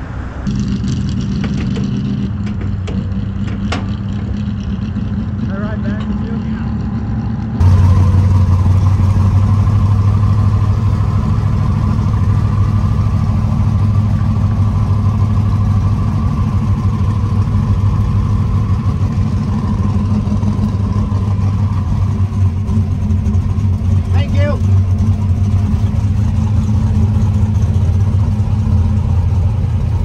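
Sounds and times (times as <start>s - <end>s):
car engine running at low revs: 0.0s - 30.0s.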